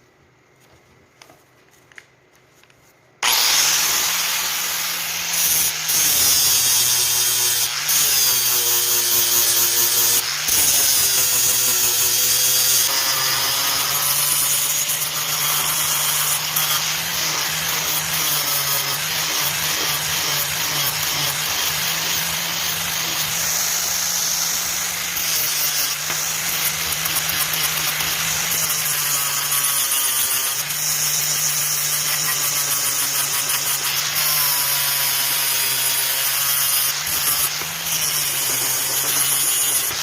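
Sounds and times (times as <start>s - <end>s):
electric power tool grinding: 3.2s - 40.0s.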